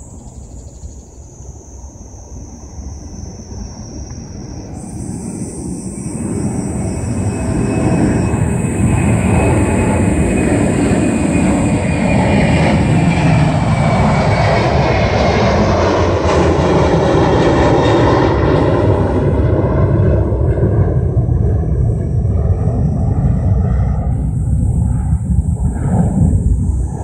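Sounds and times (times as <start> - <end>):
aircraft engine passing overhead: 0.0 - 27.0.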